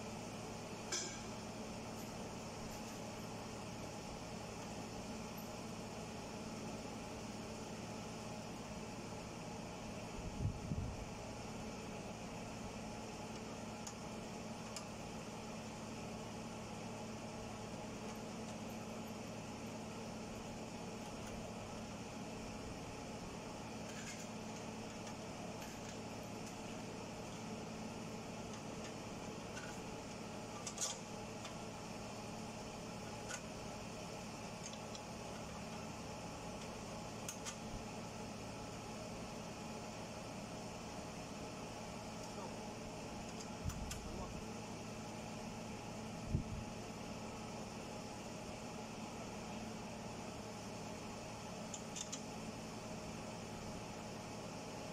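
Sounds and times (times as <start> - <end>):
electric fan humming: 0.0 - 54.9.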